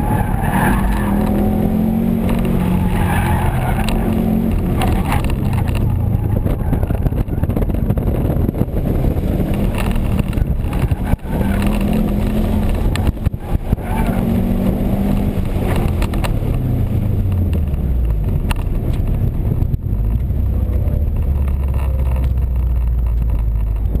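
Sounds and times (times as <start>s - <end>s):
car engine revving: 0.0s - 24.0s
tyre and road noise: 0.0s - 24.0s.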